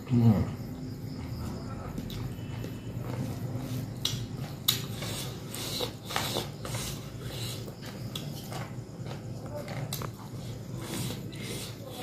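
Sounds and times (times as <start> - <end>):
person chewing and smacking food: 1.4 - 11.8.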